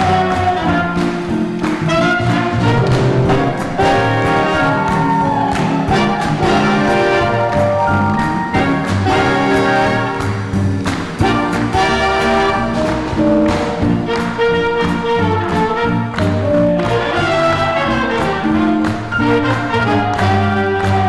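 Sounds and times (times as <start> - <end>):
double bass: 0.0 - 21.0
drums: 0.0 - 21.0
trumpets and trombones: 0.0 - 21.0.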